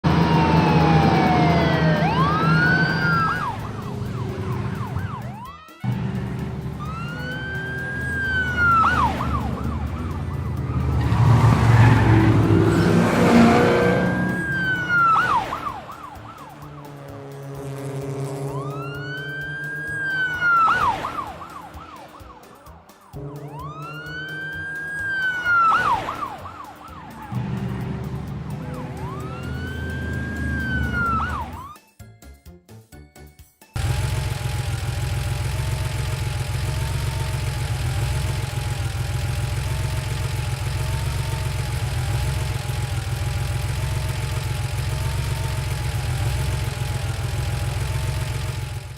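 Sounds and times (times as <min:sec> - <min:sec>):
low engine hum: 0:00.0 - 0:22.5, 0:23.1 - 0:31.7, 0:33.8 - 0:48.9
cartoon police siren wailing: 0:00.0 - 0:31.8, 0:36.5 - 0:48.9.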